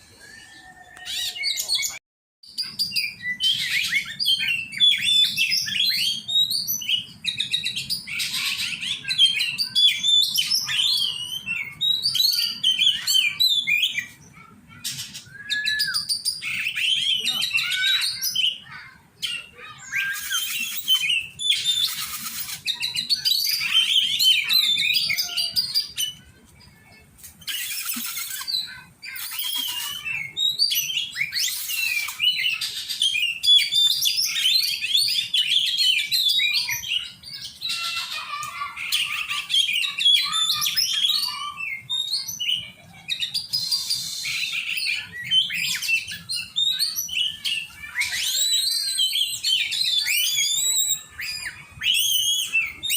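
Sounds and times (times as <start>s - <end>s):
bird singing whistled phrases: 0.2s - 14.2s, 15.2s - 26.2s, 27.5s - 38.0s, 38.9s - 52.9s.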